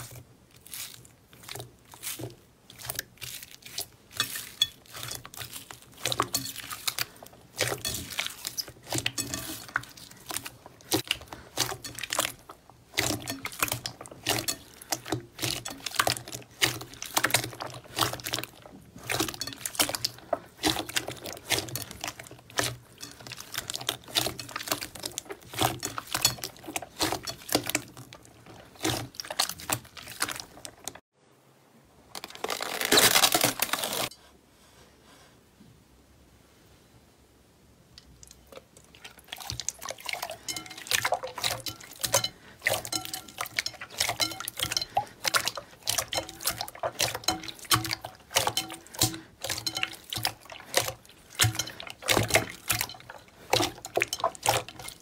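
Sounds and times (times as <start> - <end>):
slime squelching: 0.0 - 31.0, 38.0 - 55.0.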